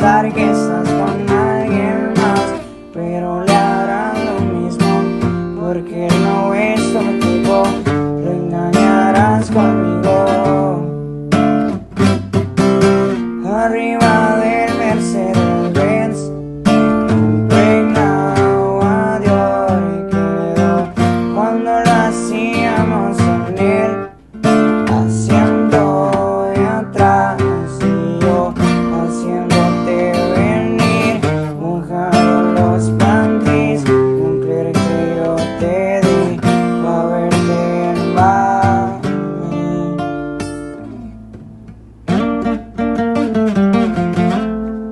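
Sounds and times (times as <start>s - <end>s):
acoustic guitar music: 0.0s - 44.9s.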